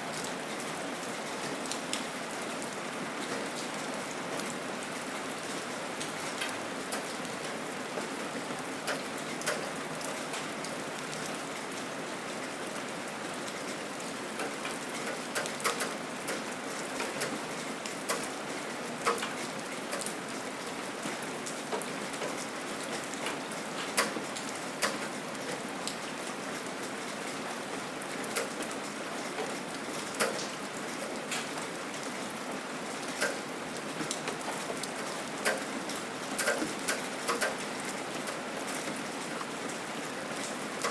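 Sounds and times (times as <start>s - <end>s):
gentle rain hiss: 0.0s - 40.9s.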